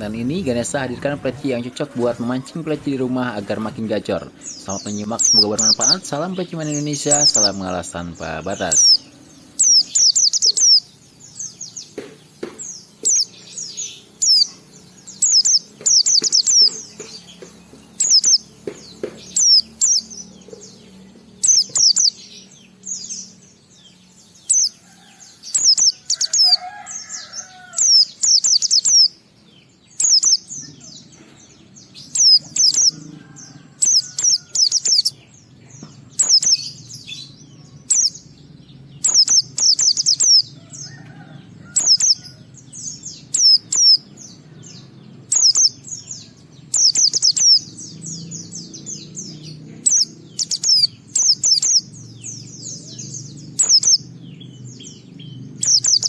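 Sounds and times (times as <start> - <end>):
bird high thin twittering: 0.0 - 23.3, 30.0 - 42.4, 44.8 - 54.1.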